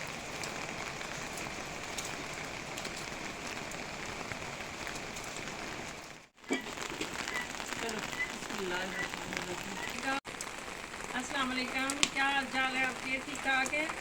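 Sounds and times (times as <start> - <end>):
rain drops ticking on a surface: 0.0 - 14.0.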